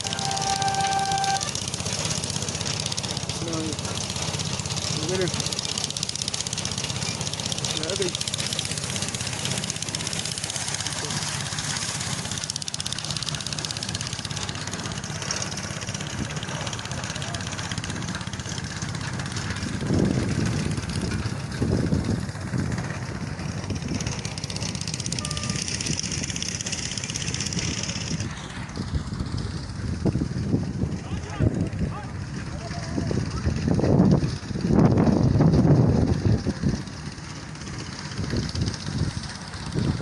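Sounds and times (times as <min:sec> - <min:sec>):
motor engine running: 0:00.0 - 0:40.0.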